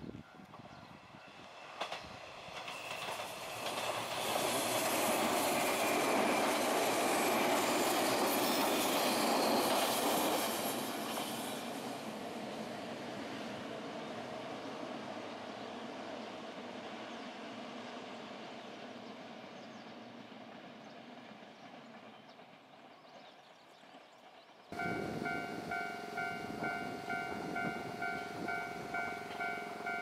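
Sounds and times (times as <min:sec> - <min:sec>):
electric train passing: 0:00.0 - 0:22.6, 0:24.7 - 0:30.0.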